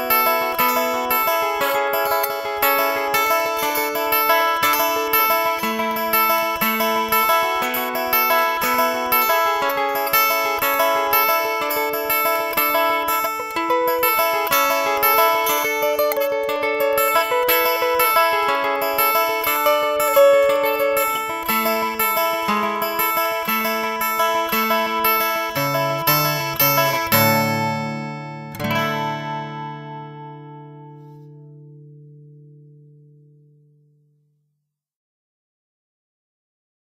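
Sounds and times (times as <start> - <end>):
acoustic guitar picking: 0.0 - 34.0.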